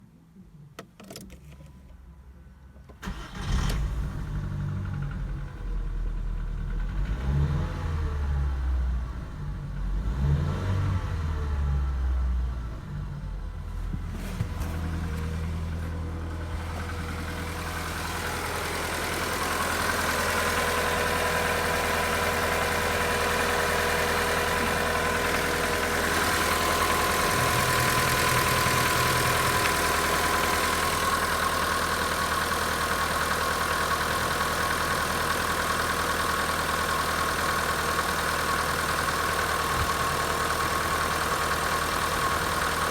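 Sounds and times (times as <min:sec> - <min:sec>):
car engine revving and idling: 0:03.0 - 0:42.9.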